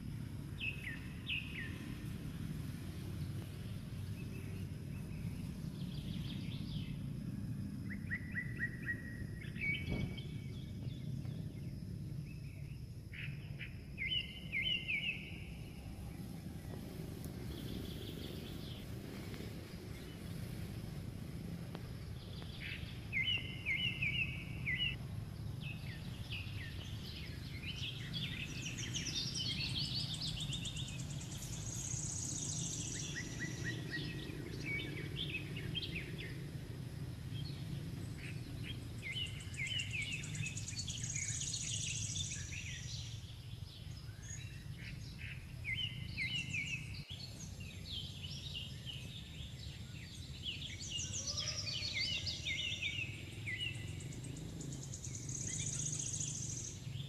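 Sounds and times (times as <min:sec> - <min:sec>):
birds chirping in rapid trills: 0:00.0 - 0:57.0
low outdoor rumble: 0:00.0 - 0:57.0.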